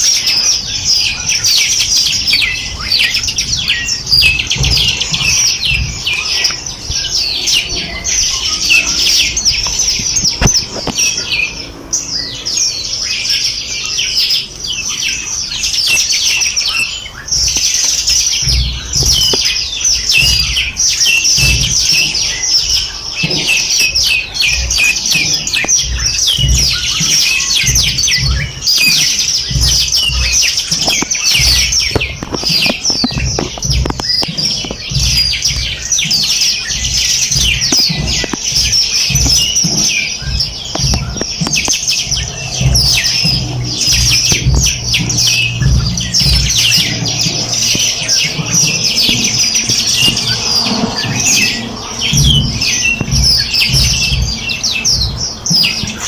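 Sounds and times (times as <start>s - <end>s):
low rumbling thumps: 0.0s - 56.0s
songbirds chirping: 0.0s - 56.0s.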